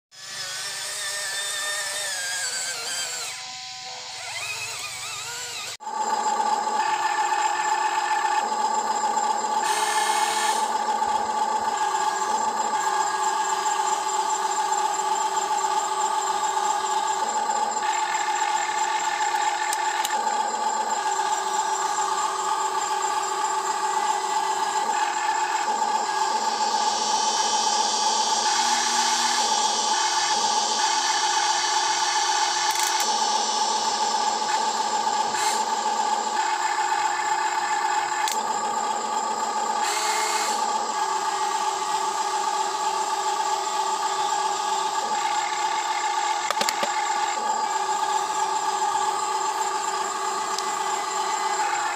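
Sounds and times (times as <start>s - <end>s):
toy excavator motors whining: 0.1s - 51.9s
lower motor tones: 0.2s - 51.9s.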